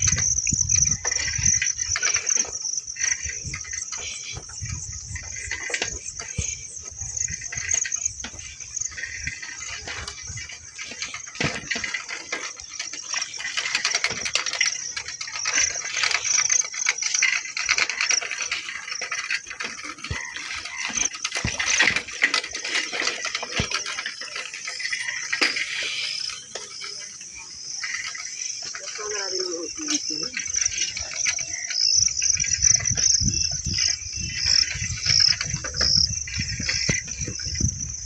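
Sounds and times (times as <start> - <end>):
insects chirring: 0.0 - 38.0
rattling and clicking on rough track: 0.0 - 38.0.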